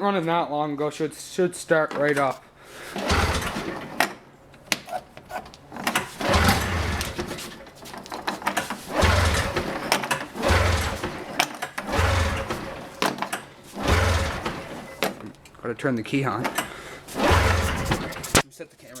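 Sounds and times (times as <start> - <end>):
recoil pull-starter yanked: 2.0 - 15.6, 16.3 - 19.0
engine turning over: 2.2 - 18.4.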